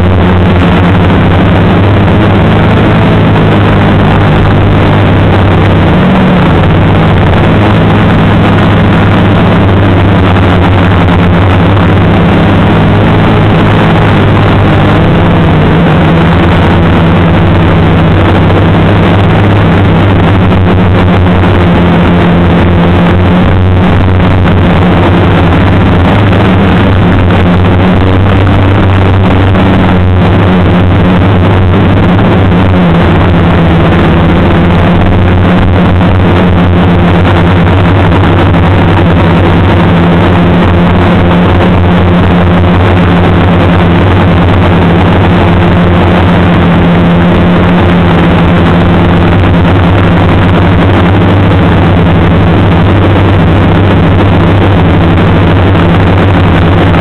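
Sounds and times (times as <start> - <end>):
drone motors and propellers droning: 0.0 - 57.0.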